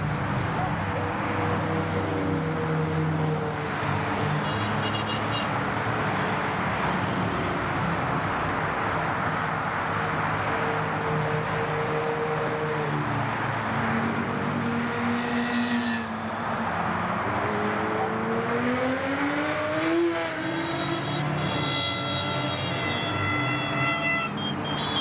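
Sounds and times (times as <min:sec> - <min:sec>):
wind and road noise: 0:00.0 - 0:25.0.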